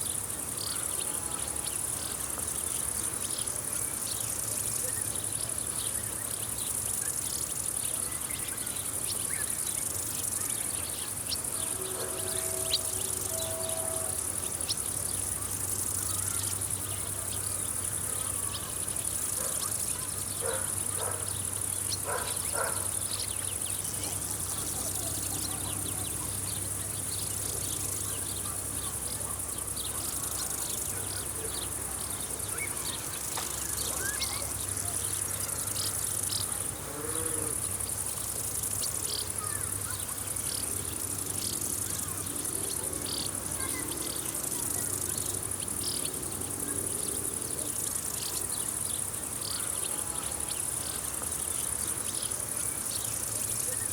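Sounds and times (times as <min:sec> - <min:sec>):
insects chirring: 0:00.0 - 0:53.9
short faint insect calls: 0:00.0 - 0:53.9.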